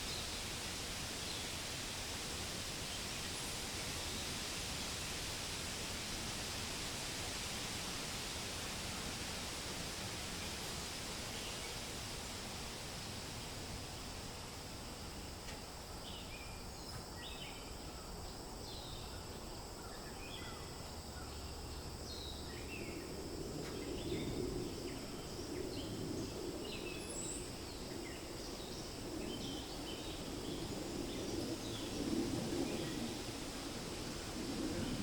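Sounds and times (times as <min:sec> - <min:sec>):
low rush of wind: 0:00.0 - 0:35.0
steady hiss: 0:00.0 - 0:35.0.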